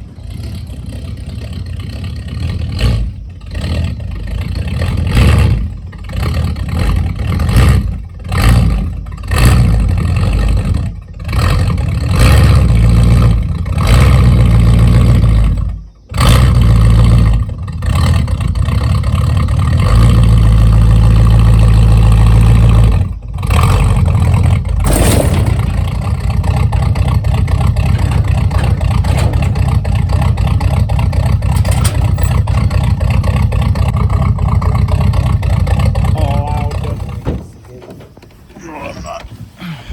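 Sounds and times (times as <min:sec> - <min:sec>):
loud truck engine under throttle: 0:00.0 - 0:37.7.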